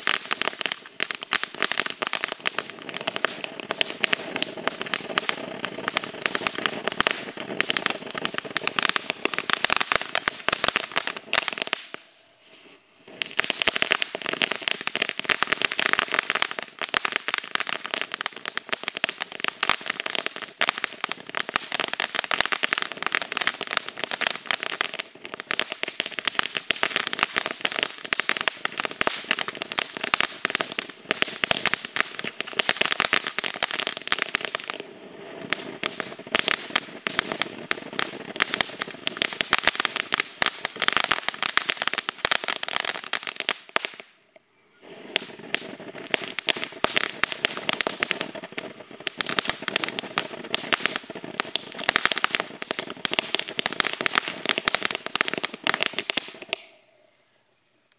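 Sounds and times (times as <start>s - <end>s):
firework fountain crackling: 0.0s - 44.2s, 44.8s - 56.8s.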